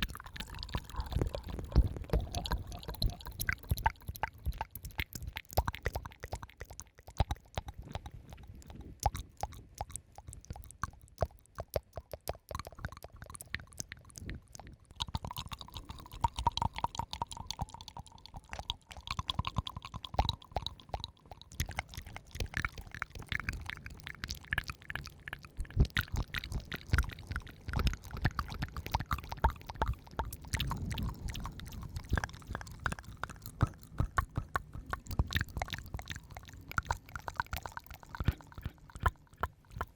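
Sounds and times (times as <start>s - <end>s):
crackly wet clicks: 0.0s - 39.9s.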